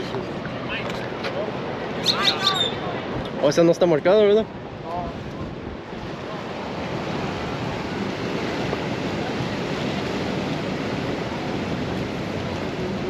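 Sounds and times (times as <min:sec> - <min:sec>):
ocean water under pier: 0:00.0 - 0:13.0
wind: 0:00.0 - 0:13.0.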